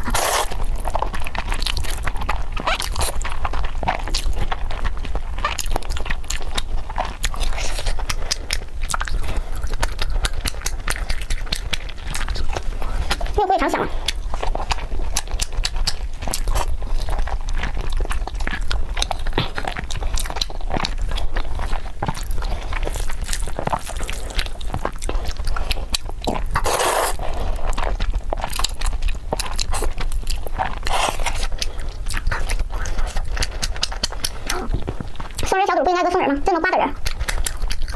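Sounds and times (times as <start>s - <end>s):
chewing and biting meat: 0.0s - 37.9s.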